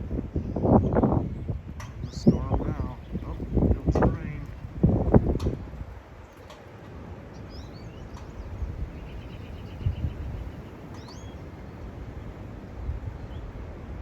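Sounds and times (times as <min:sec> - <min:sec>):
small birds chirping: 0:00.3 - 0:13.6.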